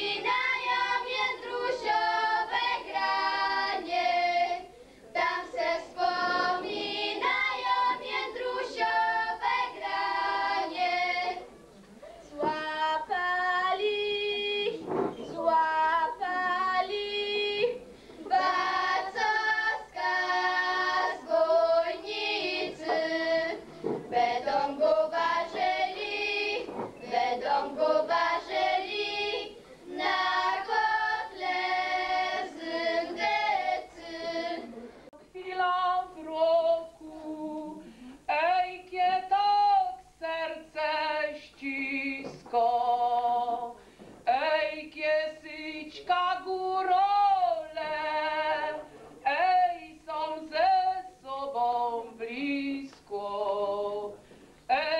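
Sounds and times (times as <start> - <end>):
girls singing together: 0.0 - 54.9.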